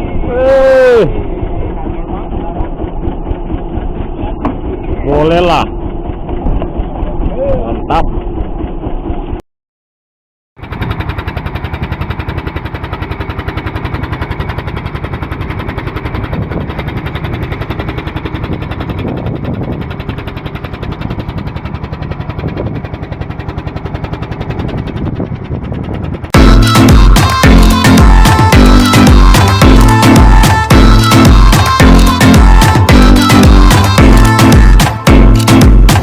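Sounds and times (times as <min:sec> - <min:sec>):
boat engine chugging: 0:00.0 - 0:09.4, 0:10.6 - 0:36.0.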